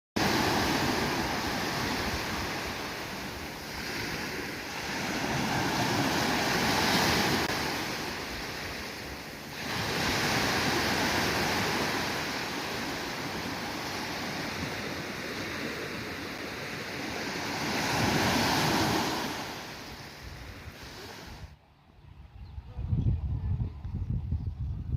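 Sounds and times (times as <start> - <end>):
sea waves breaking on a beach: 0.2 - 21.6.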